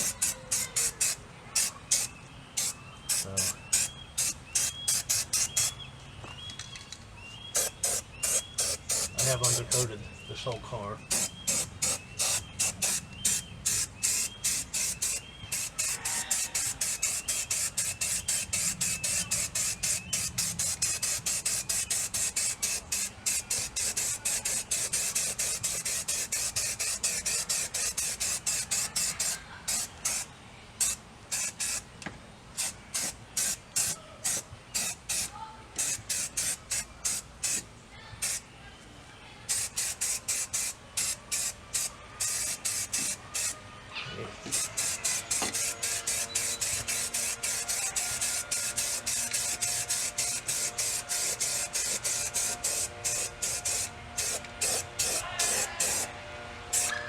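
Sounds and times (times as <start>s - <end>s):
aerosol can spraying in short bursts: 0.0s - 5.7s, 7.6s - 9.9s, 11.1s - 31.8s, 32.6s - 37.6s, 38.2s - 38.4s, 39.5s - 43.6s, 44.5s - 56.1s, 56.7s - 56.9s.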